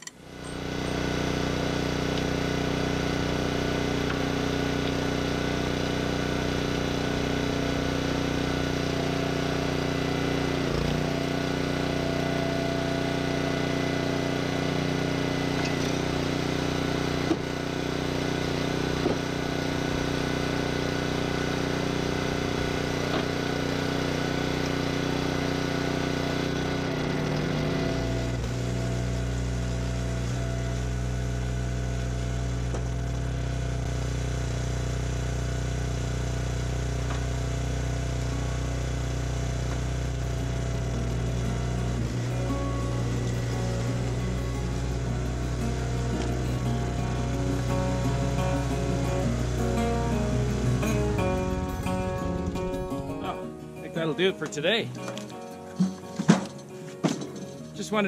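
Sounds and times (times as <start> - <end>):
log splitter engine running: 0.0 - 58.0.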